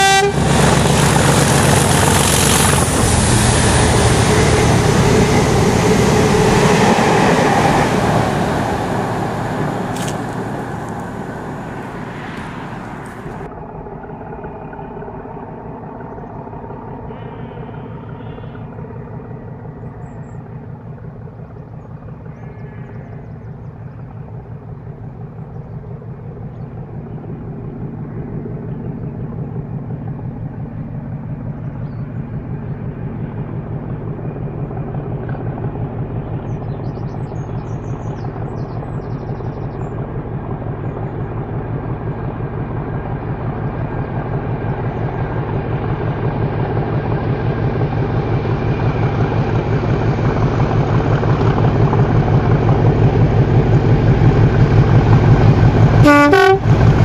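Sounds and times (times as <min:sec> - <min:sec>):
diesel locomotive engine approaching: 0:00.0 - 0:57.0.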